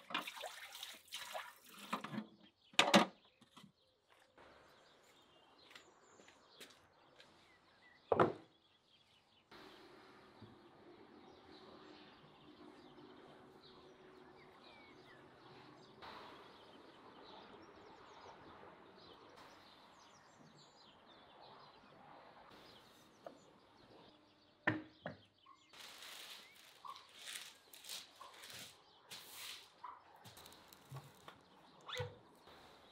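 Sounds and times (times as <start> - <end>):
distant birds chirping: 1.9 - 32.9.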